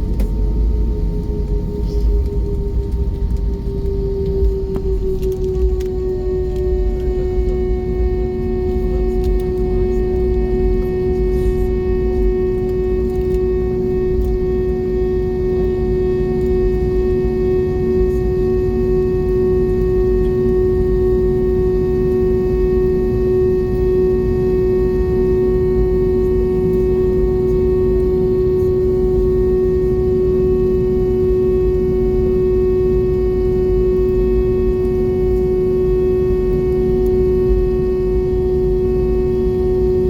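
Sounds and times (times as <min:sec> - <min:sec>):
aircraft cabin rumble: 0:00.0 - 0:40.0.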